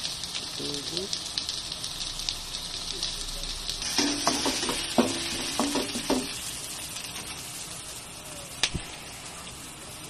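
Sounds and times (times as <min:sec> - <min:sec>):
onion sizzling in oil: 0:00.0 - 0:10.0.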